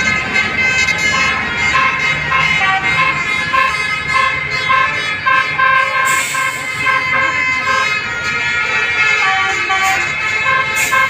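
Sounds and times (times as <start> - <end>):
multi-tone bus horn melody: 0.0 - 11.0.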